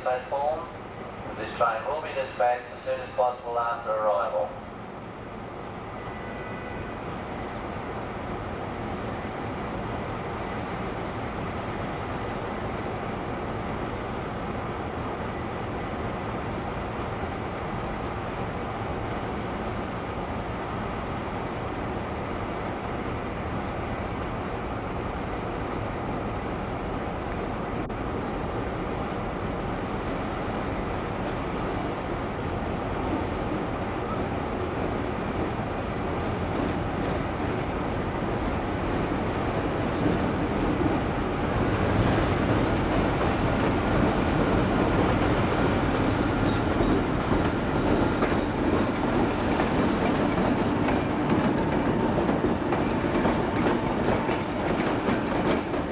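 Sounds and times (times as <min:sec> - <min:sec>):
train running on rails: 0:00.0 - 0:55.9.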